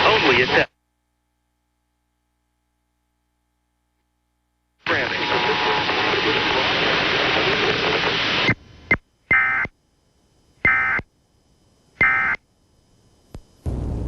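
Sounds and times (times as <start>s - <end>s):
broadcast static hiss: 0.0s - 14.0s.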